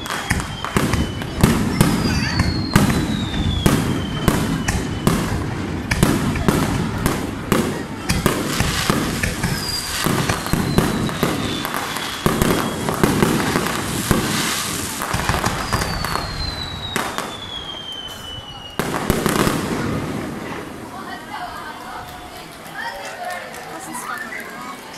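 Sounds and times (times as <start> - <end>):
falling firework whistle: 0.0 - 20.2
fireworks crackling: 0.0 - 24.9.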